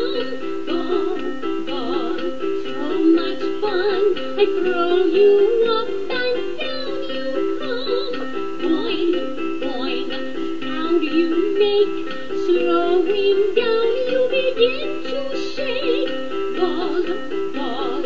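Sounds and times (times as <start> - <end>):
high wavering singing voice: 0.0 - 18.0
song with quick melody: 0.0 - 18.0.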